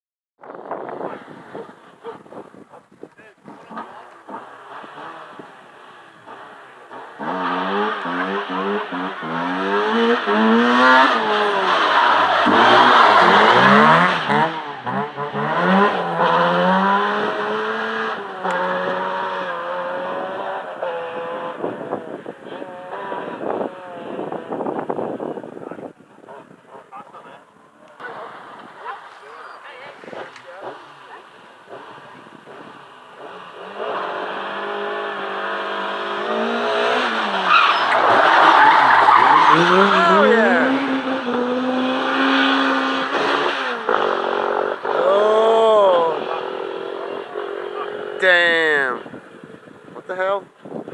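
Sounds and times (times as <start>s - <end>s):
loud tyre noise: 0.4s - 50.9s
rally car engine revving: 0.6s - 50.8s.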